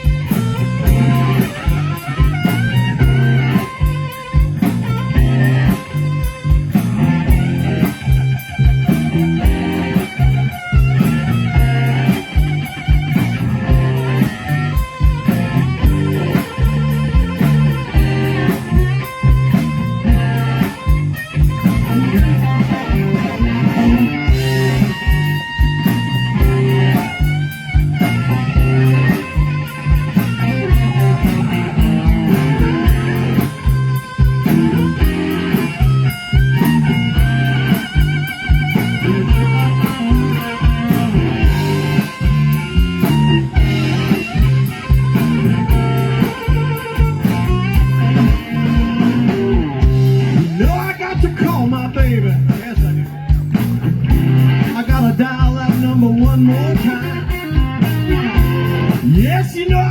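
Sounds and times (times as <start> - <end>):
bass line: 0.0 - 59.9
electric guitar bending notes: 0.0 - 59.9
steady drum beat: 0.0 - 59.9.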